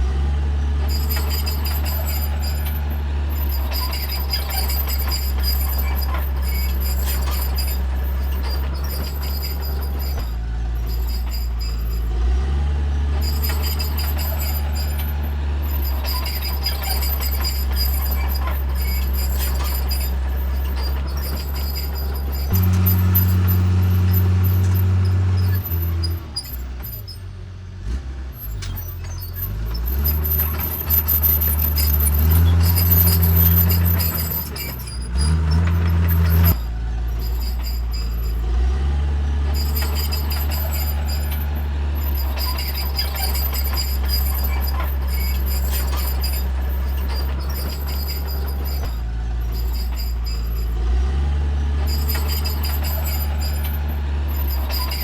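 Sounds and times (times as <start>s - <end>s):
bulldozer diesel engine: 0.0s - 55.0s
thin high squeal: 0.8s - 12.4s, 13.1s - 27.3s, 28.4s - 55.0s.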